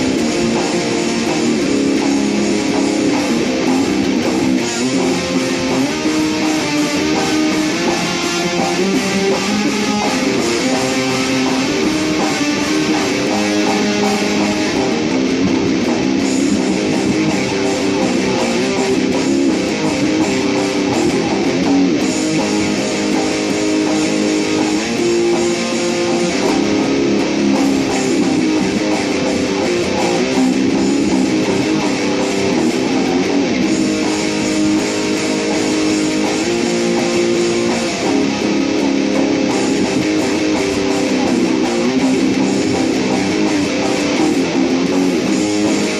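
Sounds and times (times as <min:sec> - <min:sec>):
electric guitar strumming chords: 0:00.0 - 0:45.9.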